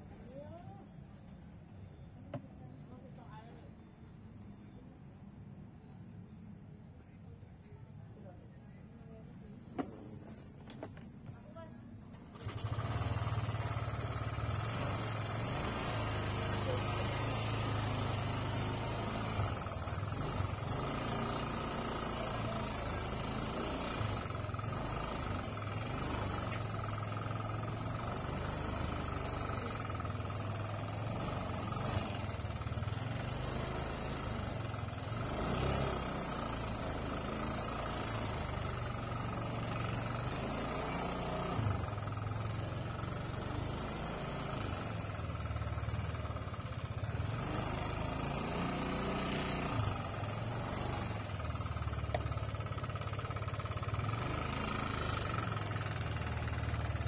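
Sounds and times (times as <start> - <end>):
small engine droning: 0.0 - 57.0.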